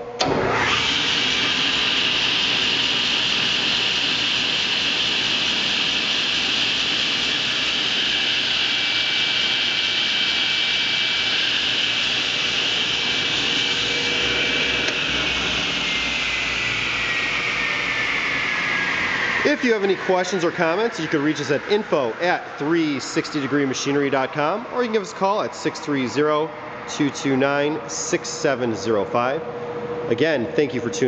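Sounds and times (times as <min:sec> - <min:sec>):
table saw running with thin whine: 0:00.2 - 0:31.0.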